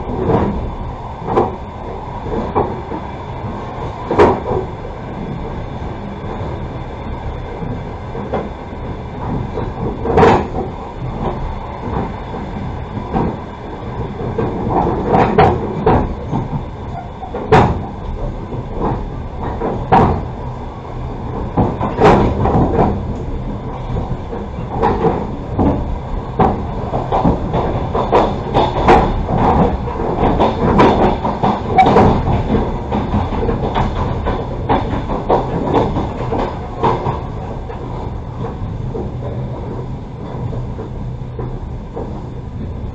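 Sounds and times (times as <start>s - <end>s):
train carriage rumbling: 0.0s - 42.9s
wheels knocking and rattling: 0.0s - 42.9s.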